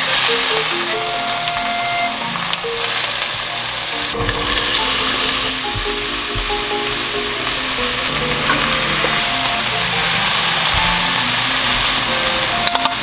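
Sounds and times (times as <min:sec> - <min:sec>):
light background music: 0:00.0 - 0:13.0.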